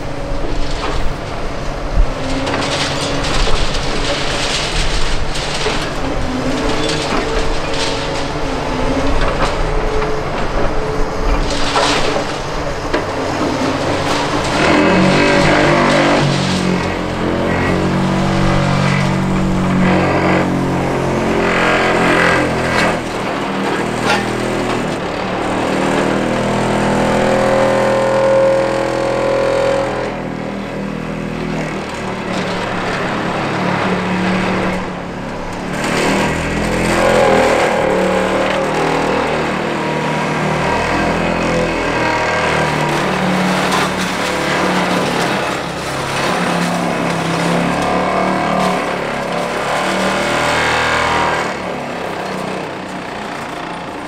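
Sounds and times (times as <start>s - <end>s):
demolition debris knocks and crunches: 0.0s - 54.0s
excavator diesel engine: 0.0s - 54.0s.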